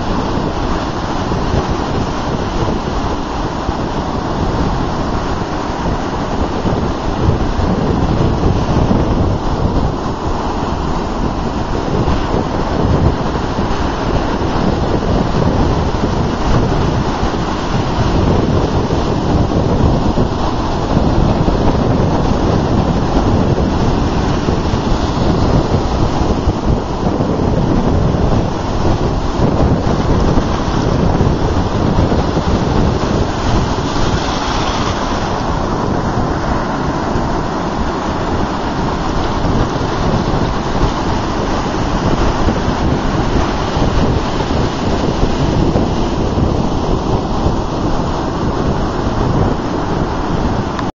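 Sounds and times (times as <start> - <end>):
ocean surf breaking: 0.0 - 50.9
wind buffeting microphone: 0.0 - 50.9.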